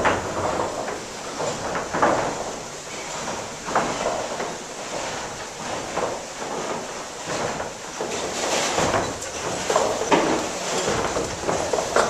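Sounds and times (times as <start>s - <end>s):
sash saw clunking and rasping: 0.0s - 12.0s
steady water rush: 0.0s - 12.0s.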